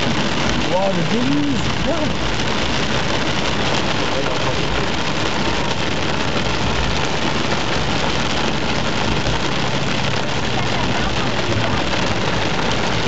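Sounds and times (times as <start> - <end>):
car engine running: 0.0 - 13.0
heavy rain on a car roof: 0.0 - 13.0.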